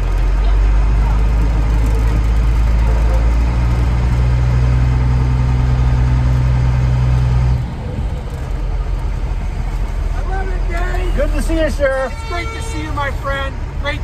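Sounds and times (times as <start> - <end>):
diesel truck engine drone: 0.0 - 14.0.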